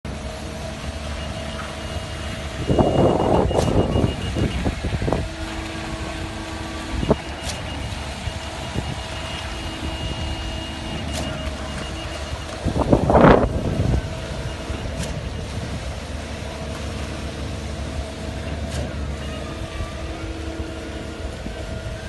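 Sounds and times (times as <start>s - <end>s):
heavy machinery running: 0.0s - 22.0s.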